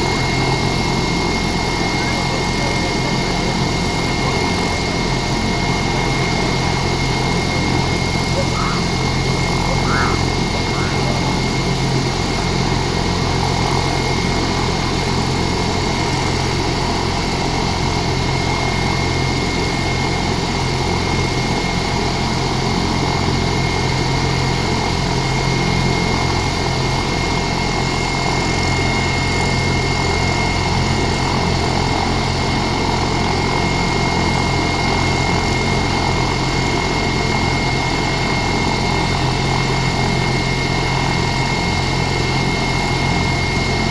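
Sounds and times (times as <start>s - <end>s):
helicopter turbine whine and rotor drone: 0.0s - 43.9s.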